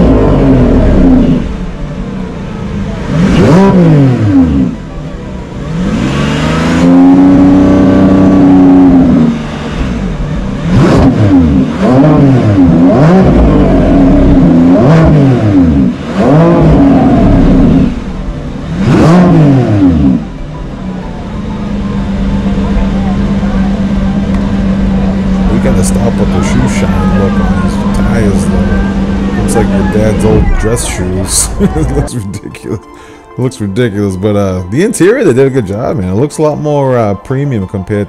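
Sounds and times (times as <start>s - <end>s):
car engine revving: 0.0s - 37.2s.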